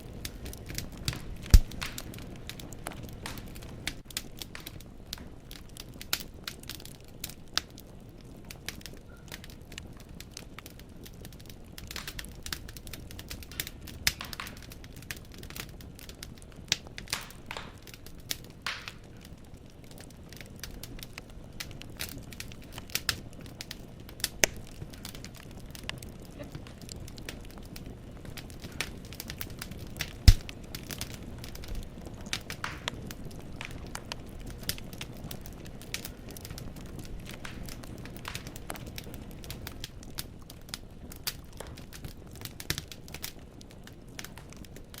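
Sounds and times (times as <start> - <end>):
wood fire crackling: 0.0 - 45.0
logs popping and snapping: 0.2 - 4.8, 11.3 - 43.5.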